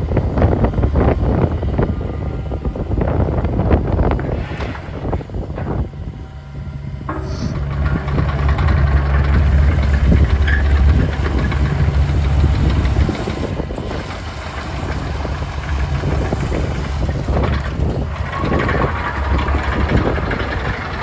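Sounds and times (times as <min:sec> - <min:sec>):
diesel engine humming and clattering: 0:00.0 - 0:21.0.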